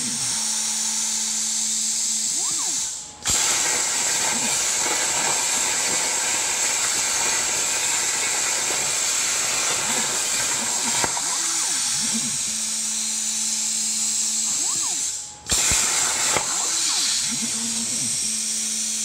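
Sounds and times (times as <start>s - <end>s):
air hissing: 0.0s - 19.0s
gantry motors whining: 0.0s - 19.0s
plasma cutter arc hissing: 0.0s - 19.0s.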